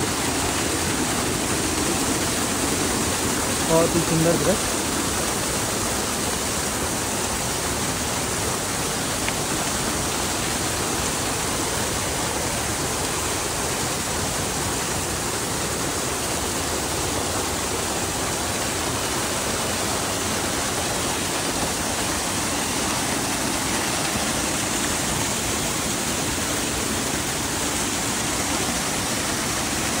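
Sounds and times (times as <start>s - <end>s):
waterfall rushing and splashing: 0.0s - 30.0s.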